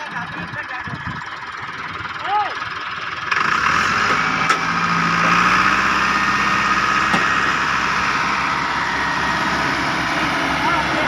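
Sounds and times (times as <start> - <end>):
tractor engine humming: 0.0 - 11.0.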